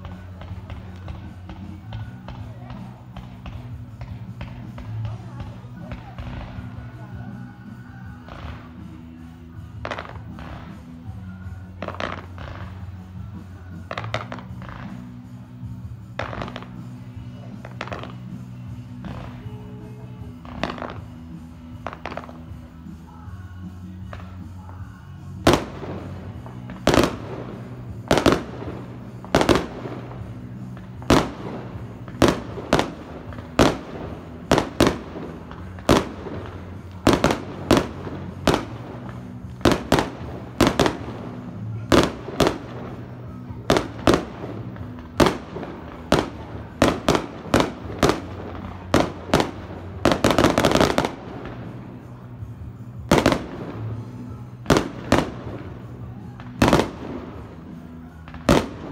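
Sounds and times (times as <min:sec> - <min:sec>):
fireworks bursting with sharp bangs: 0:00.0 - 0:58.9.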